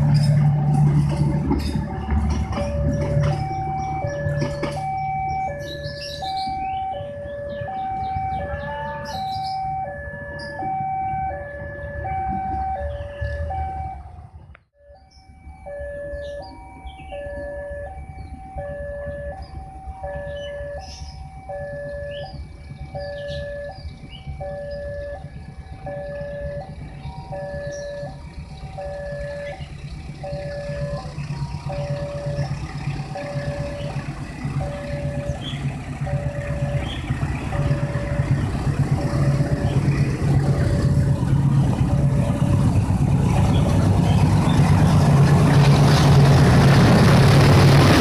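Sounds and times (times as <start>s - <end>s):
low rumble: 0.0s - 48.0s
level-crossing alarm two-tone: 0.2s - 14.1s, 14.8s - 39.6s.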